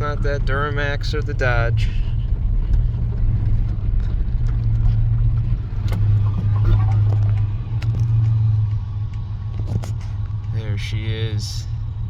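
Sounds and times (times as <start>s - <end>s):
pickup engine and road drone: 0.0s - 12.0s.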